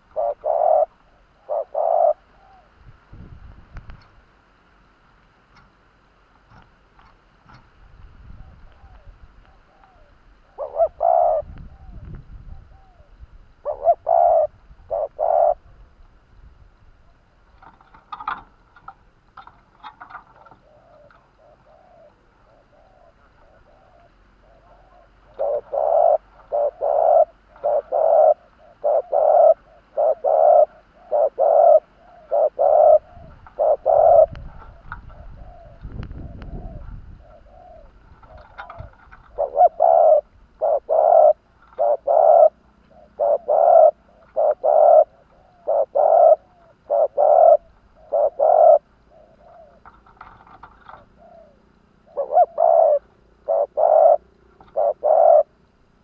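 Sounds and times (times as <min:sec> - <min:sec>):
dove cooing: 0:00.0 - 0:03.3, 0:07.4 - 0:16.1, 0:17.0 - 0:56.0
faint low rumble: 0:00.0 - 0:19.7, 0:20.4 - 0:56.0.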